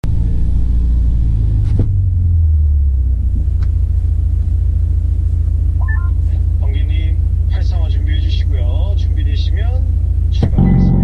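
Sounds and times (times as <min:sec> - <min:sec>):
electric car low rumble: 0:00.0 - 0:11.0.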